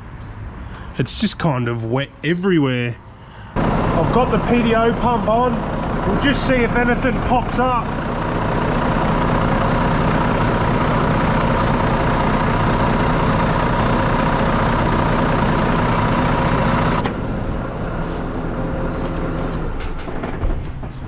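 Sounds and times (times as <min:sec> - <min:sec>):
diesel engine running: 0:03.2 - 0:21.0
hydraulic pump whine: 0:03.6 - 0:20.6.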